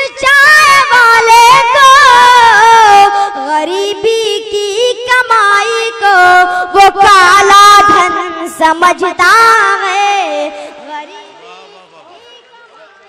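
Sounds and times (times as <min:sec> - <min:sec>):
boy singing into a microphone: 0:00.0 - 0:13.0.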